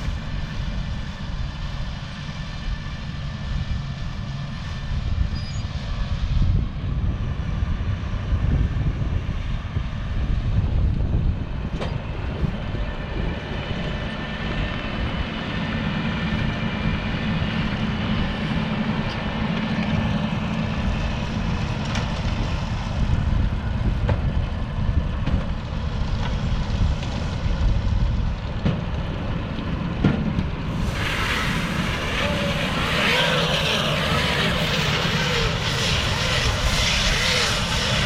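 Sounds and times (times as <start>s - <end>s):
tractor engine droning: 0.0s - 38.0s.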